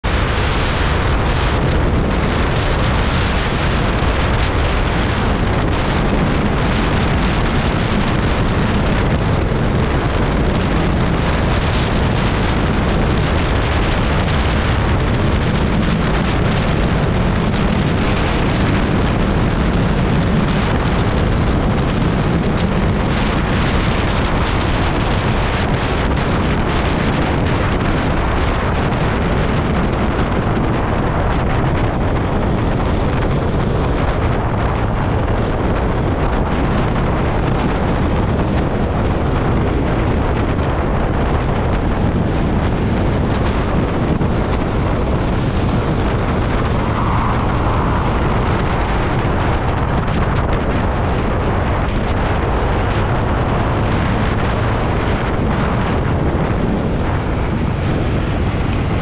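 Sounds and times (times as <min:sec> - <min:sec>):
scooter engine at speed: 0:00.0 - 0:59.0
wind rush on microphone: 0:00.0 - 0:59.0.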